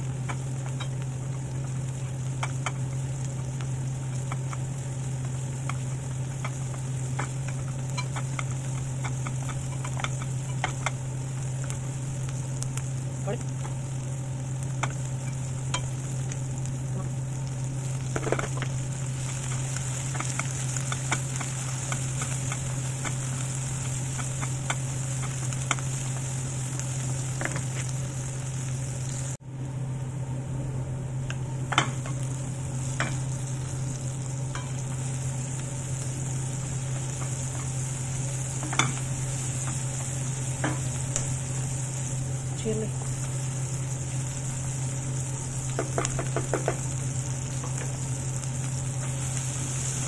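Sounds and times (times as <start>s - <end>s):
steady low hum: 0.0s - 50.0s
vegetables sizzling in oil: 0.0s - 50.0s.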